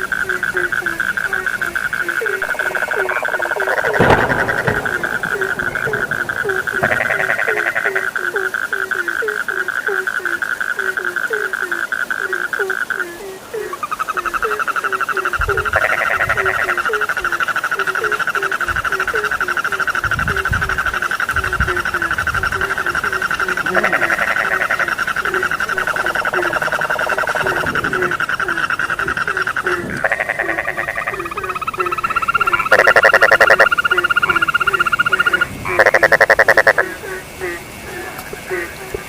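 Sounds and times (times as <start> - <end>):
short low frog croaks: 0.0 - 13.0, 13.8 - 37.6
frogs pulsing trill: 0.0 - 39.0.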